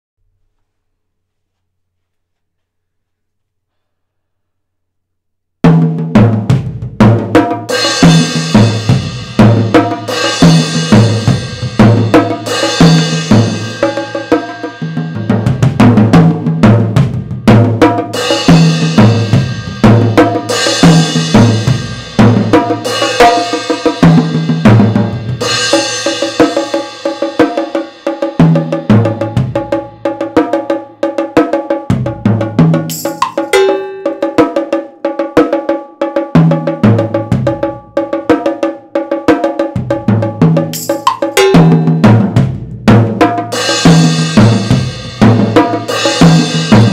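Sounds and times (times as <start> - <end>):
drums played with drumsticks: 5.6 - 46.9.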